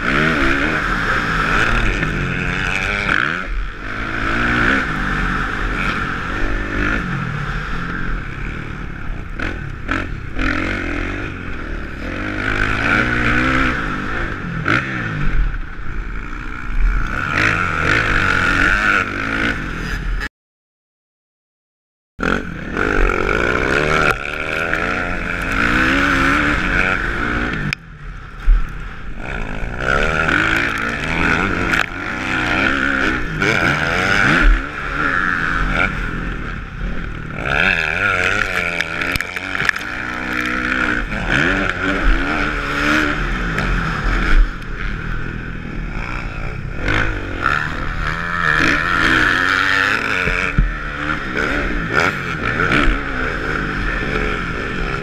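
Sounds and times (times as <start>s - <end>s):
motocross bike engine revving: 0.0s - 20.3s, 22.2s - 55.0s.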